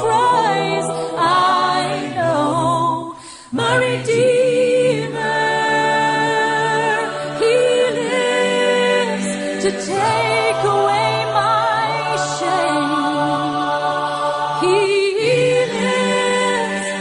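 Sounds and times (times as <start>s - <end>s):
song with layered vocal harmonies: 0.0s - 17.0s.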